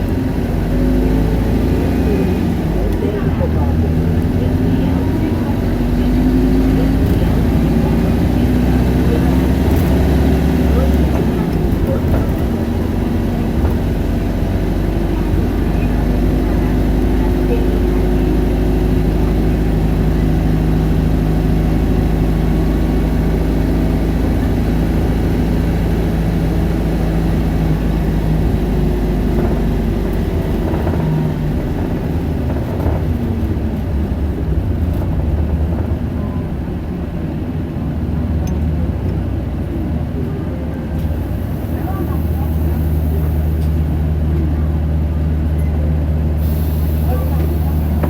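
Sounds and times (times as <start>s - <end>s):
bus diesel engine running: 0.0s - 48.0s.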